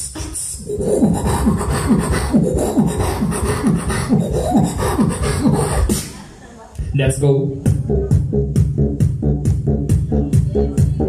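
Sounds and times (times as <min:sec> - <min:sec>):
beatboxing into a microphone: 0:00.0 - 0:11.0.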